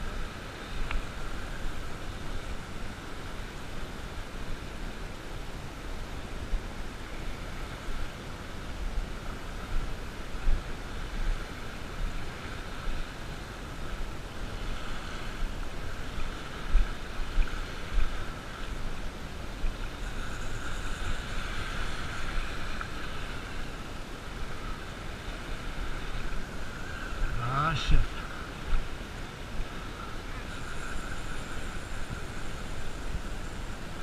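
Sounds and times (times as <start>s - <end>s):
small waves washing: 0.0s - 34.0s.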